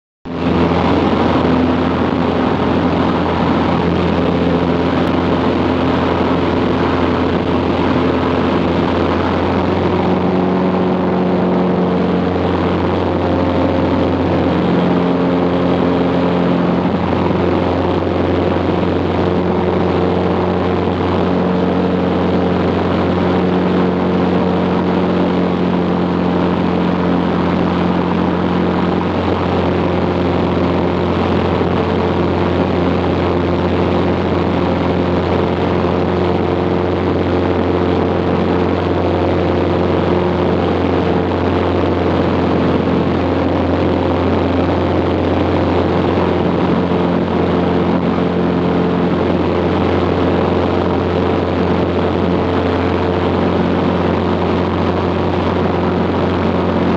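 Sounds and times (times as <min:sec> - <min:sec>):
propeller airplane engine droning: 0:00.3 - 0:56.9.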